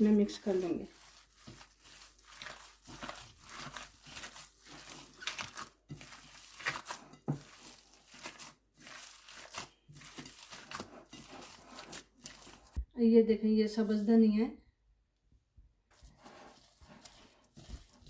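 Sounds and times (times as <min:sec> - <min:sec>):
hands kneading minced meat: 0:00.0 - 0:14.5, 0:15.9 - 0:18.0.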